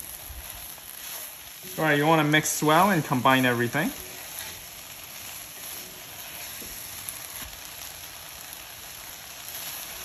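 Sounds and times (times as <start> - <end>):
food sizzling in a pot: 0.0 - 10.0
spatula stirring: 0.0 - 10.0.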